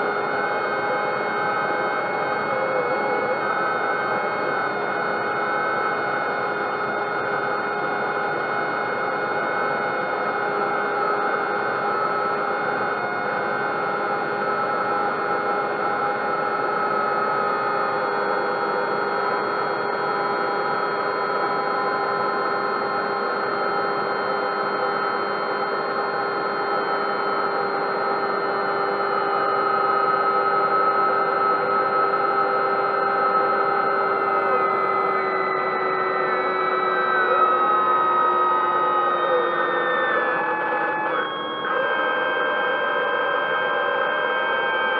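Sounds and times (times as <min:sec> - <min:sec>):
small motors whining: 0:00.0 - 0:44.9.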